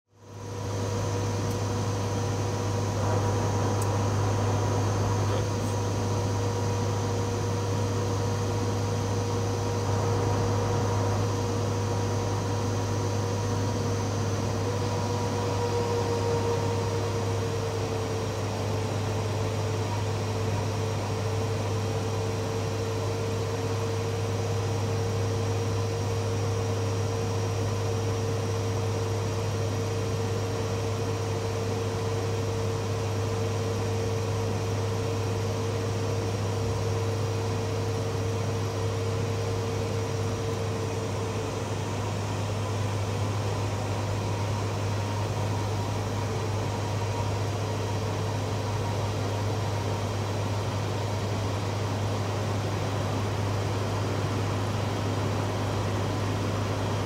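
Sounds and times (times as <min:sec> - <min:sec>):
turboprop engines droning: 0:00.2 - 0:57.0.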